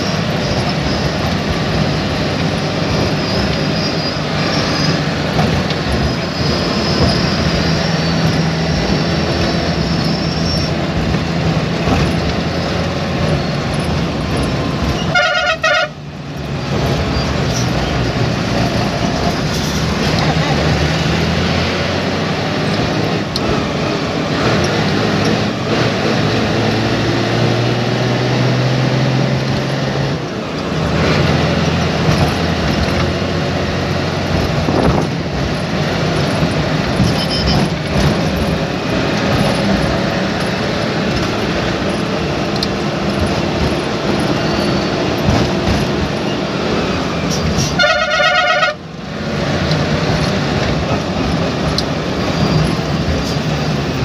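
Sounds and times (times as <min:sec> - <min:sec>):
bus engine: 0:00.0 - 0:54.0
road noise: 0:00.0 - 0:54.0.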